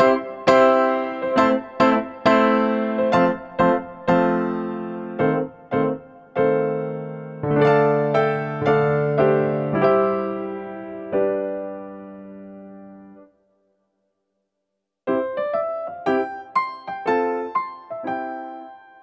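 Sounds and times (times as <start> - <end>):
slow piano melody: 0.0 - 13.6, 15.0 - 19.0.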